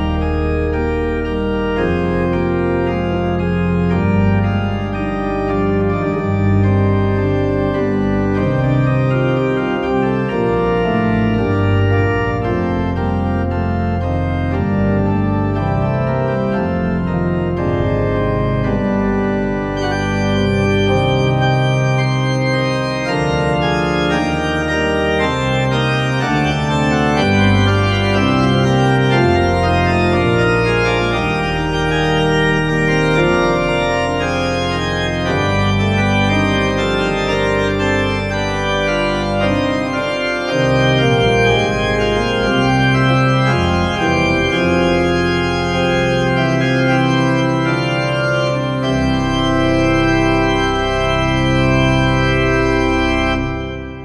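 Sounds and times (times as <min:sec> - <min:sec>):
organ playing: 0:00.0 - 0:54.0.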